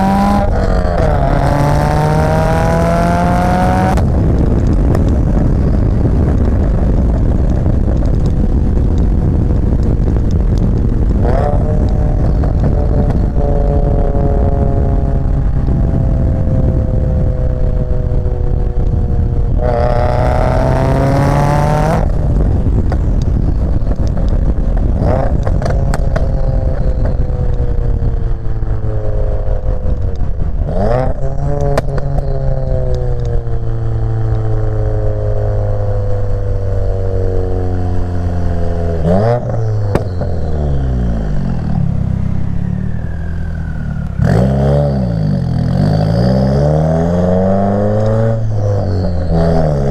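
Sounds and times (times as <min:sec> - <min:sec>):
car engine revving: 0:00.0 - 0:27.1, 0:37.0 - 0:49.9
exhaust cracks: 0:00.0 - 0:28.9, 0:37.6 - 0:49.9.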